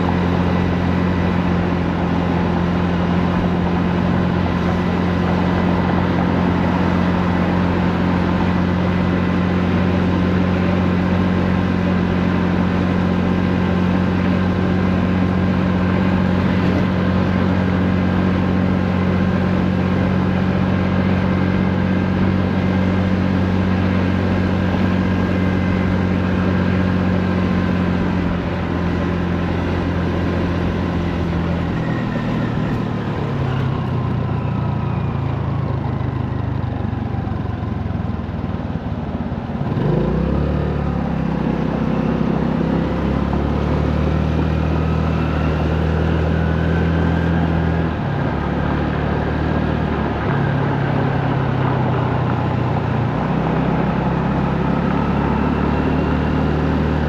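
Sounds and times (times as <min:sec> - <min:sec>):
road and wind noise: 0:00.0 - 0:57.0
small motorbike engine running: 0:00.0 - 0:57.0.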